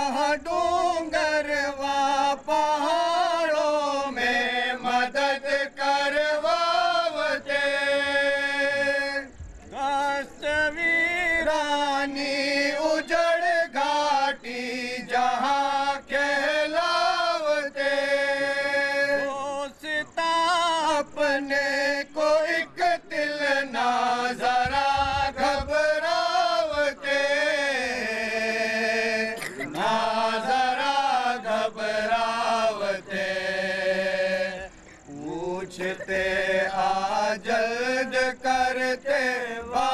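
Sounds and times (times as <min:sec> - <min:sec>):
person chanting devotional verse: 0:00.0 - 0:39.9.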